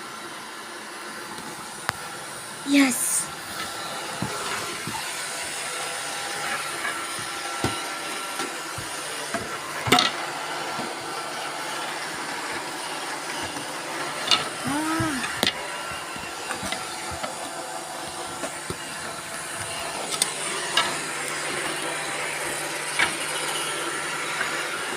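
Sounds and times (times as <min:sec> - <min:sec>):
robot vacuum cleaners whirring: 0:00.0 - 0:24.9.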